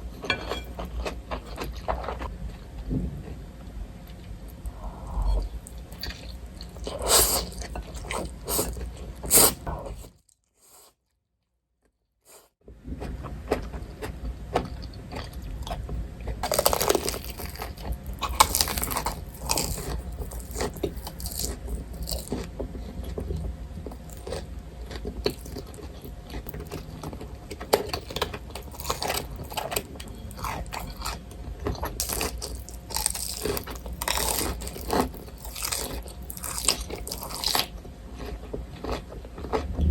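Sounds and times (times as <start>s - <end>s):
person chewing crunchy food: 0.0s - 2.8s, 4.1s - 11.0s, 12.3s - 39.9s.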